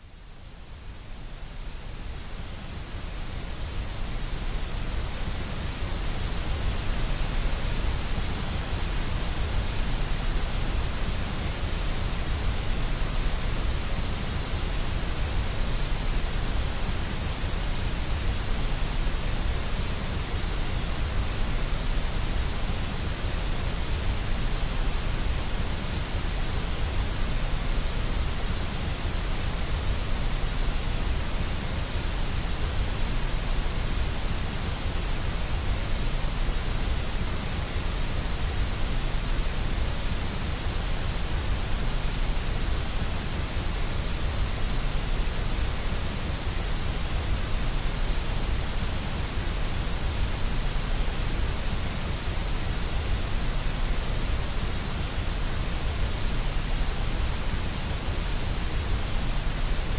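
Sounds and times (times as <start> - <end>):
steady white noise: 0.0 - 59.9.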